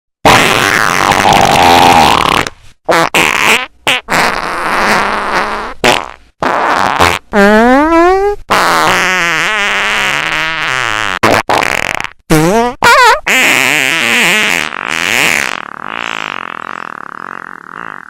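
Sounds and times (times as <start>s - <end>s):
distorted fart sound effects: 0.2s - 18.0s.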